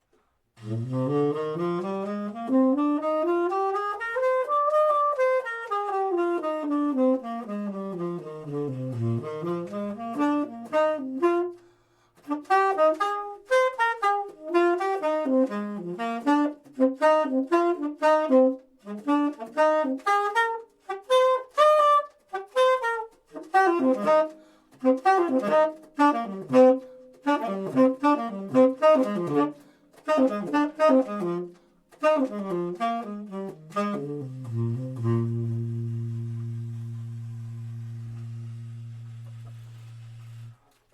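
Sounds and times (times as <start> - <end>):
solo saxophone: 0.1 - 40.9.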